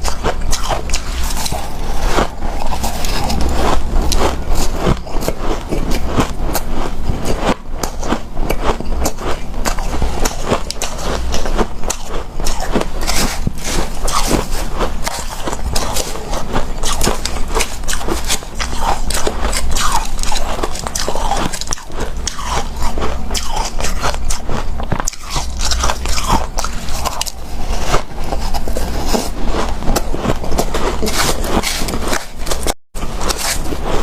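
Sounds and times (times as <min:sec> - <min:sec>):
chewing crunchy ice: 0:00.0 - 0:34.0.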